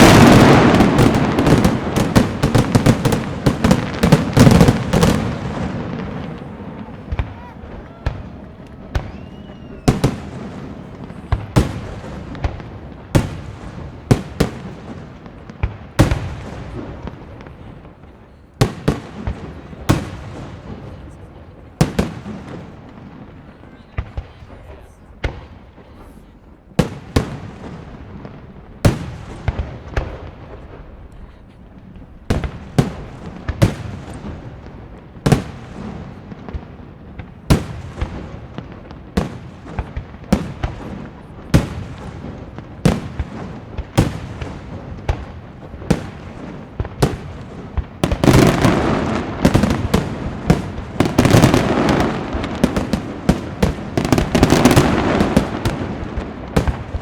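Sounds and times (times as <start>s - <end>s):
firework bangs: 0.0s - 57.0s.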